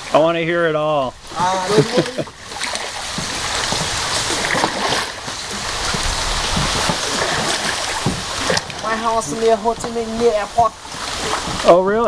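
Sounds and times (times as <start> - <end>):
water rushing around boat: 0.0 - 12.0.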